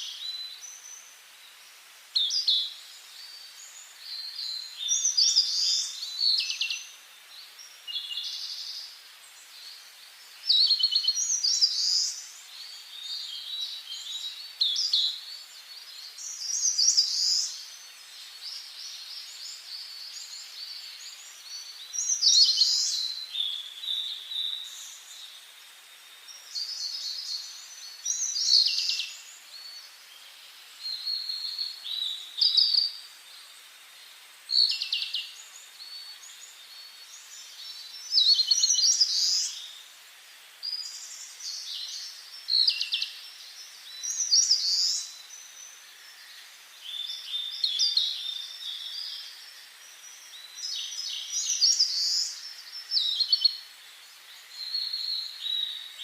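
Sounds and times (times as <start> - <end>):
faint steady hiss: 0.0 - 56.0
songbirds twittering: 0.0 - 56.0.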